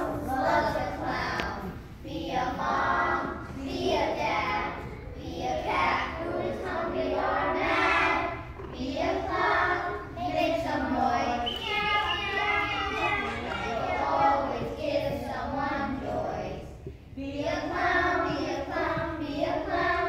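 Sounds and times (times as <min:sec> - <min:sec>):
children singing: 0:00.0 - 0:20.0.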